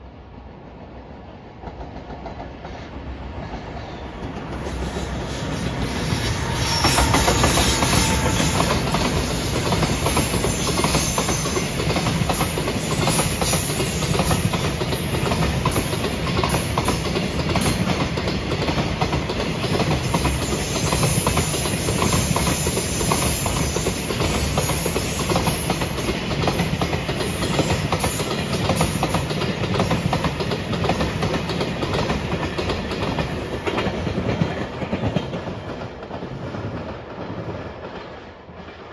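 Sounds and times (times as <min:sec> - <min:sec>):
train wheels clattering over rails: 0:01.6 - 0:38.9.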